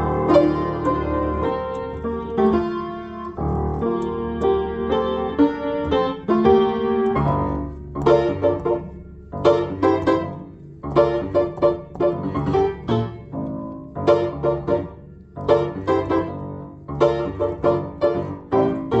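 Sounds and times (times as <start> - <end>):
piano chord stabs: 0.0 - 19.0.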